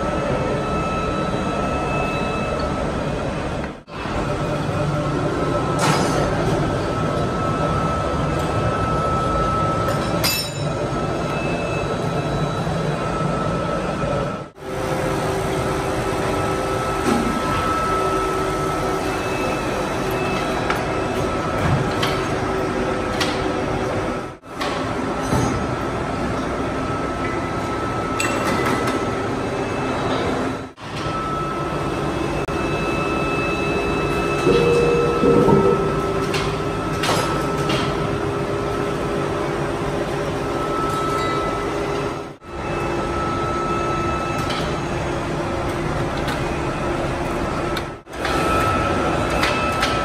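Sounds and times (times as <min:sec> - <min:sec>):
metalworking machinery running: 0:00.0 - 0:50.0.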